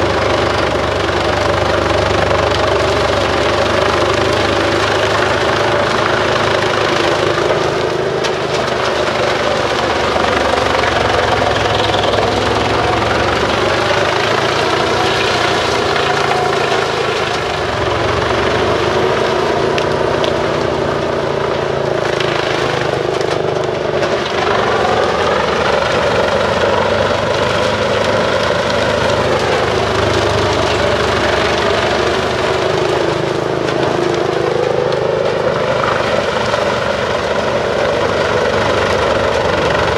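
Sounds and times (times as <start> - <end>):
wood chipper chipping: 0.0 - 39.9.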